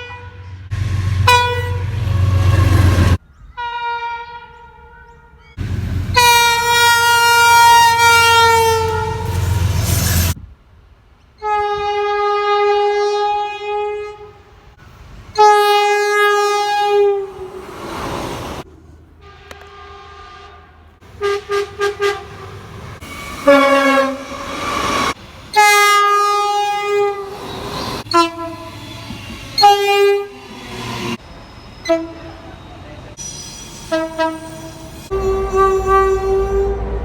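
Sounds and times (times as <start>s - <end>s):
locomotive air horn blasts: 0.0s - 5.0s, 6.0s - 10.4s, 11.4s - 14.6s, 15.4s - 17.7s, 19.2s - 31.2s, 31.8s - 32.5s, 33.9s - 37.0s.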